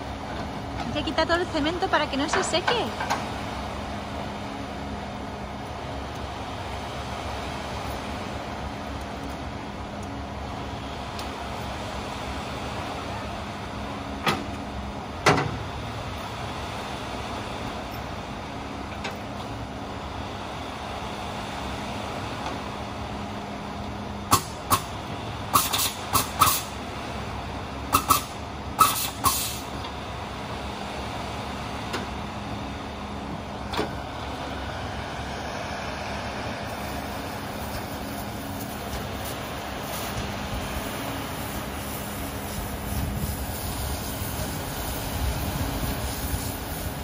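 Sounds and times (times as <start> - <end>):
truck engine running: 0.0 - 47.0.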